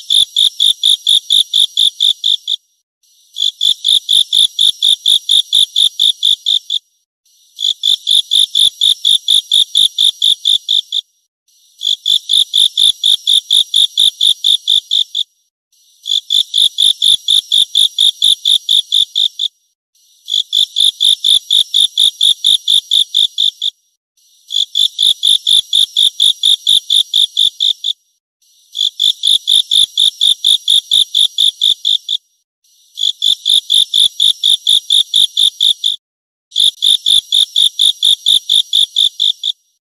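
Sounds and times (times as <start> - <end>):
insect chirping: 0.0 - 2.6, 3.4 - 6.8, 7.6 - 10.9, 11.8 - 15.2, 16.0 - 19.3, 20.2 - 23.7, 24.4 - 27.8, 28.7 - 32.2, 33.0 - 36.0, 36.6 - 39.6.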